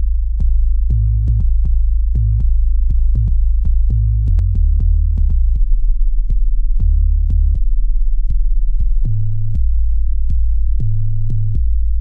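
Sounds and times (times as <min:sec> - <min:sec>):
deep electronic bass tones: 0:00.0 - 0:12.0.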